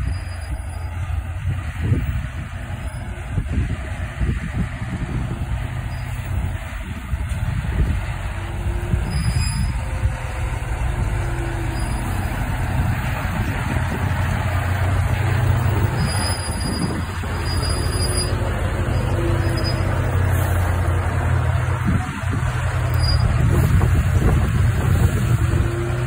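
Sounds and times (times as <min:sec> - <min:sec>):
truck diesel engine droning: 0:00.0 - 0:26.0
tyres hissing on wet road: 0:00.0 - 0:26.0.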